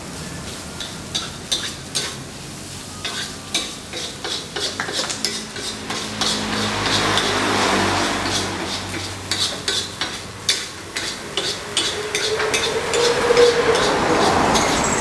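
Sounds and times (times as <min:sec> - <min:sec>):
frying sizzle: 0:00.0 - 0:15.0
metal spatula scraping a wok: 0:00.8 - 0:02.2, 0:03.0 - 0:15.0.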